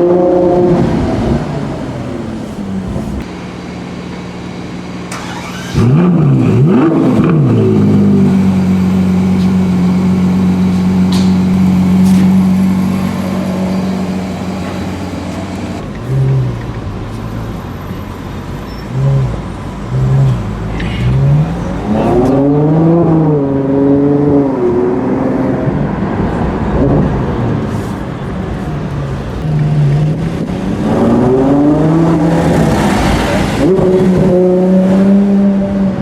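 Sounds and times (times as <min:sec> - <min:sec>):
car engine revving: 0:00.0 - 0:03.3, 0:05.1 - 0:36.0.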